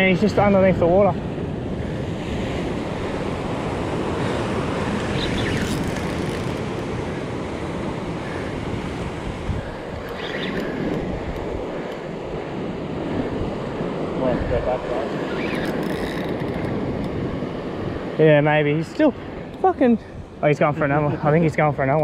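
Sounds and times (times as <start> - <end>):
ocean surf on rocks: 0.0 - 22.0
wind buffeting microphone: 0.0 - 22.0.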